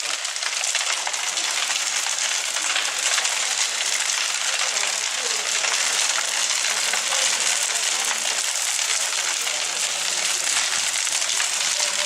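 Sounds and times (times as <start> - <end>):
bonfire crackling and hissing: 0.0 - 12.0.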